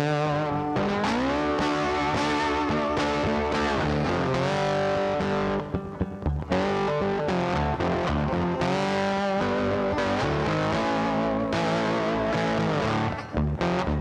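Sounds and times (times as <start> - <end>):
rock music with electric guitar: 0.0 - 14.0.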